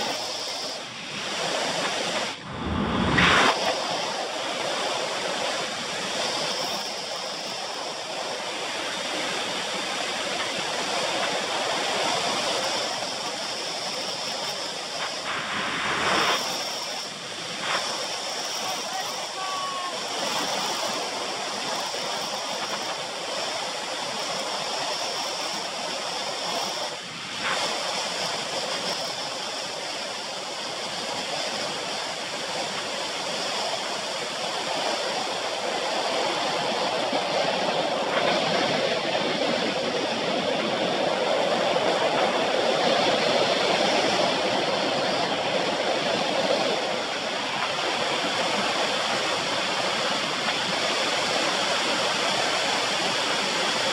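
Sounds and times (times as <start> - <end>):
bike tyre noise on road: 0.0 - 53.9
wind rushing over microphone: 0.0 - 53.9.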